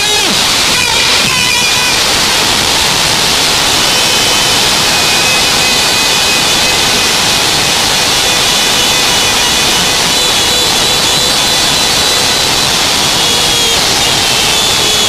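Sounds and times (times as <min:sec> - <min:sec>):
stadium crowd roaring: 0:00.0 - 0:15.0.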